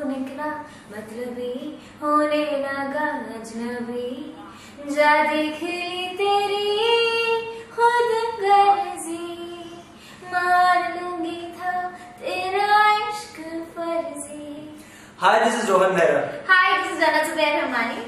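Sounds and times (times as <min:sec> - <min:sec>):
woman singing slow song: 0:00.0 - 0:14.9.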